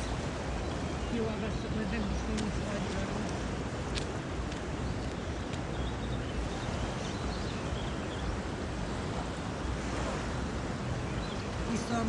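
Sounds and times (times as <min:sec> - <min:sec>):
floodwater rushing: 0:00.0 - 0:05.6, 0:06.2 - 0:12.0.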